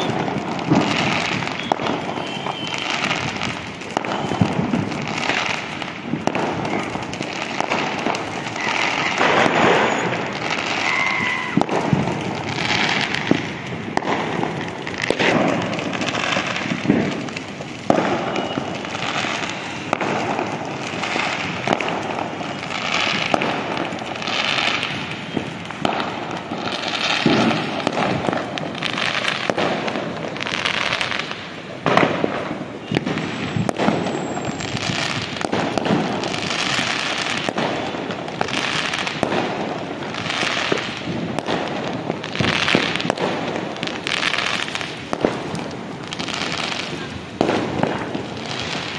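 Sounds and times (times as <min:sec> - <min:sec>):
fireworks and firecrackers crackling: 0:00.0 - 0:48.9.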